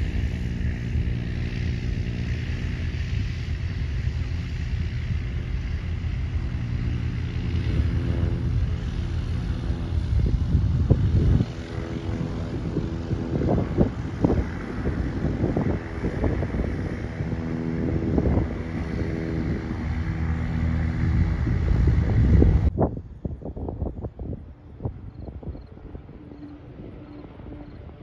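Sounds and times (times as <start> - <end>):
heavy low rumble: 0.0 - 28.0
propeller airplane droning: 0.0 - 28.0.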